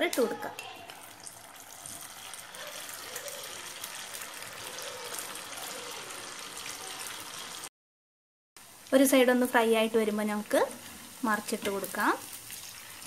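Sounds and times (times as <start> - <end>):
food deep-frying in oil: 0.0 - 7.7, 8.6 - 13.0.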